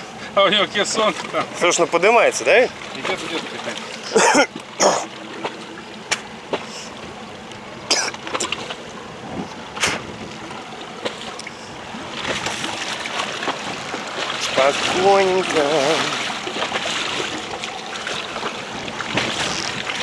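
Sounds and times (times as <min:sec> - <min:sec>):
water and wind around hull: 0:00.0 - 0:20.0.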